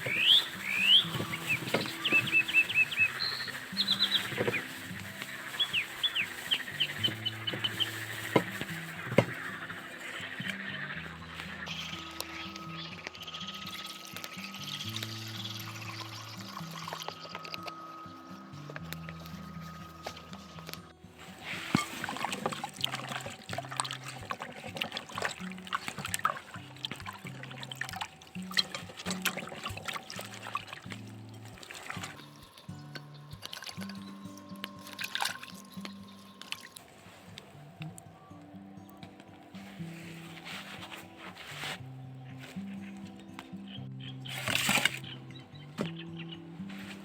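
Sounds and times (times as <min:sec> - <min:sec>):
small songbirds chirping: 0:00.0 - 0:37.1, 0:41.9 - 0:47.0
water trickling and splashing: 0:00.0 - 0:37.6, 0:44.2 - 0:45.2
quiet background music: 0:00.0 - 0:47.0.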